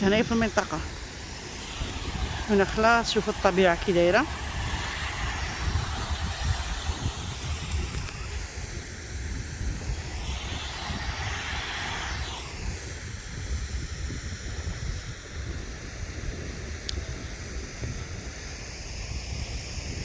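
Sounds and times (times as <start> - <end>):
steady outdoor hiss: 0.0 - 20.0
wind buffeting microphone: 0.0 - 20.0.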